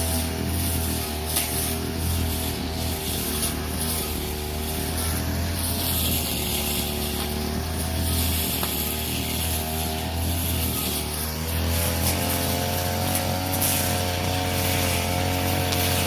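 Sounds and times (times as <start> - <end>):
brush cutter engine running: 0.0 - 16.0
cutting head hissing through grass: 0.0 - 16.0.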